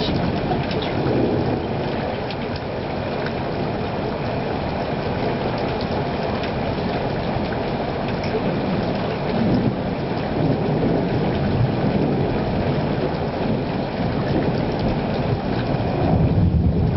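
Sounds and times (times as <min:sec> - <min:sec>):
steady rain rushing: 0:00.0 - 0:16.9.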